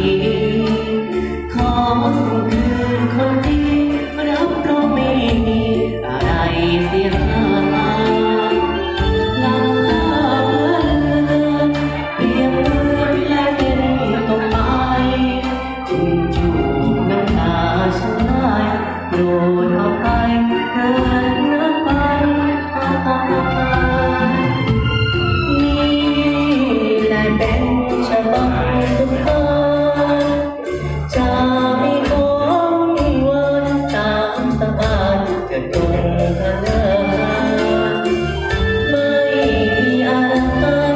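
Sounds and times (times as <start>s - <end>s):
man singing into a microphone: 0.0s - 24.6s, 25.5s - 40.9s
karaoke backing music over loudspeakers: 0.0s - 40.9s.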